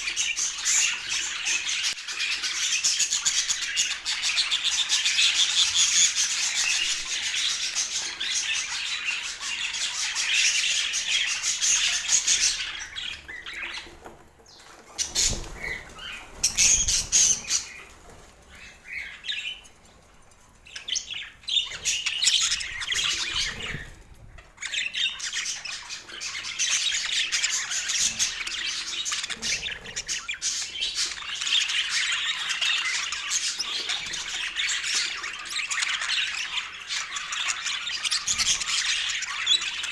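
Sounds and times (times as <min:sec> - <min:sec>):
budgerigars chattering: 0:00.0 - 0:19.6, 0:20.7 - 0:39.9.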